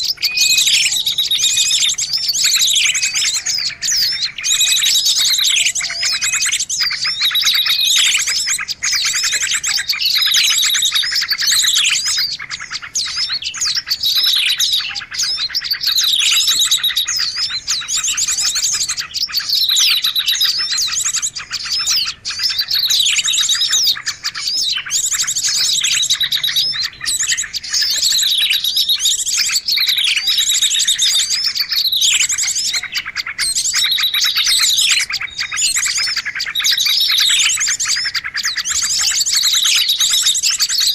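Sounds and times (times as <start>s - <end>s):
falling bird call: 0.0s - 40.9s
songbirds chirping and trilling: 0.0s - 40.9s.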